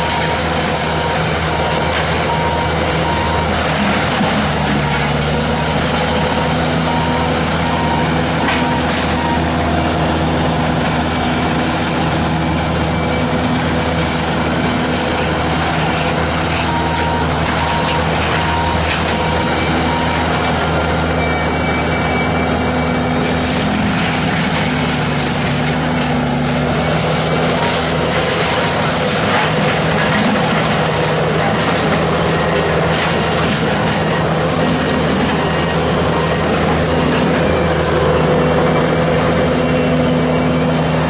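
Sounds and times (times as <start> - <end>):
diesel engine running under load: 0.0 - 41.0
reversing alarm beeping: 0.0 - 41.0.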